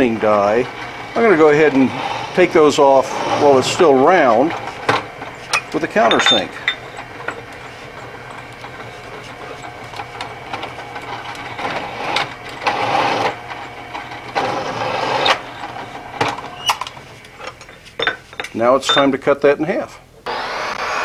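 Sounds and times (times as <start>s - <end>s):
drill press hum: 0.0s - 19.1s, 20.2s - 21.0s
countersink bit cutting metal: 0.3s - 19.2s.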